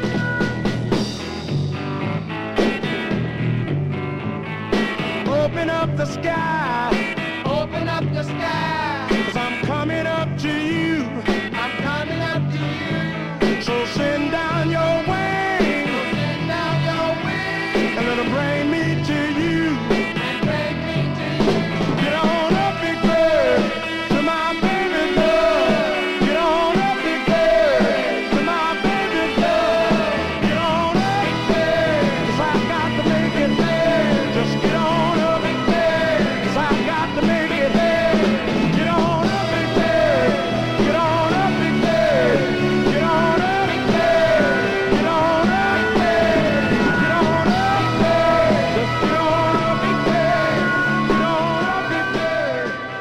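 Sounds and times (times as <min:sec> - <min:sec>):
soul band music from vinyl: 0:00.0 - 0:53.0.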